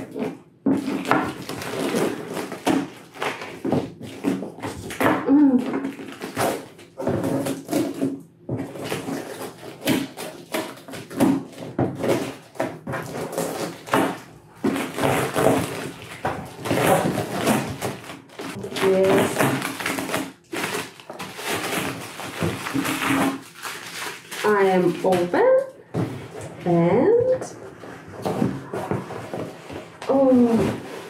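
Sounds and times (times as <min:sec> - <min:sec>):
packing tape ripping: 0:00.0 - 0:25.2
plastic wrapping crinkling: 0:00.0 - 0:26.5, 0:27.6 - 0:31.0.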